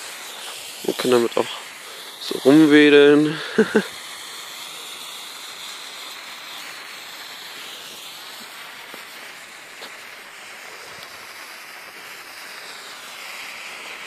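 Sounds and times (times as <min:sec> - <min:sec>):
faint crackles: 0:00.0 - 0:14.0
igniter stick hissing: 0:00.0 - 0:14.0.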